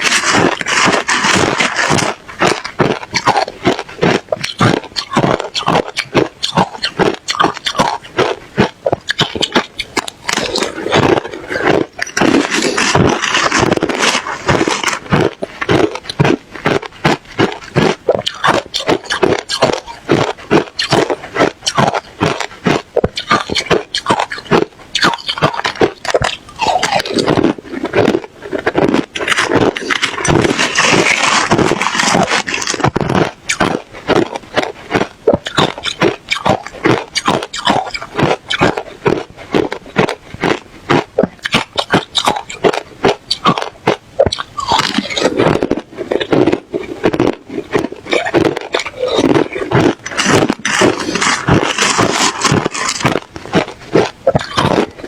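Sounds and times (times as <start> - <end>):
person chewing and crunching ice: 0.0 - 55.0.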